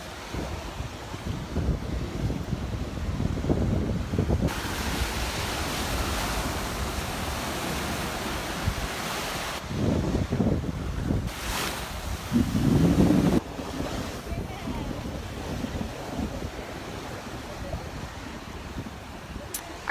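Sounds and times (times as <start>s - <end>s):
waves washing onto beach: 0.0s - 19.9s
wind buffeting microphone: 0.0s - 19.9s.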